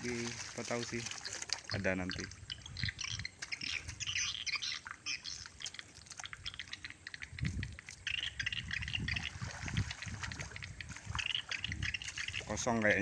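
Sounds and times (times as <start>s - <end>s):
water dripping and splashing: 0.0s - 13.0s.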